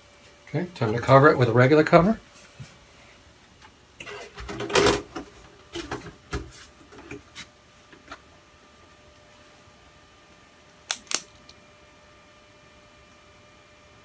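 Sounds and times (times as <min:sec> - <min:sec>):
server fans humming: 0:00.0 - 0:14.0.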